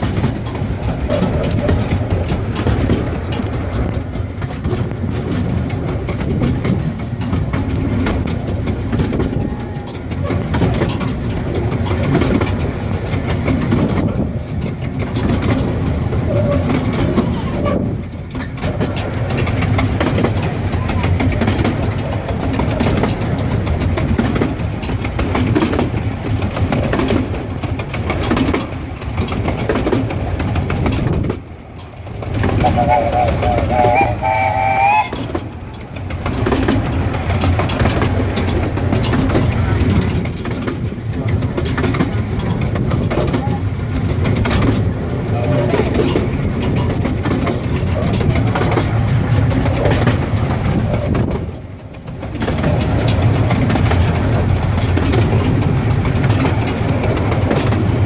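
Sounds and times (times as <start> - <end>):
clicks and rattles of track: 0.0 - 58.0
train wheels rumbling on rail: 0.0 - 58.0.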